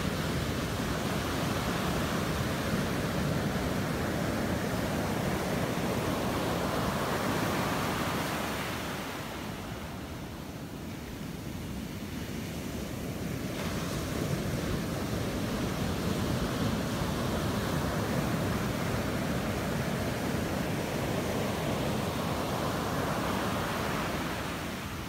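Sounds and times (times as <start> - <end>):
surf waves breaking on beach: 0.0 - 25.0.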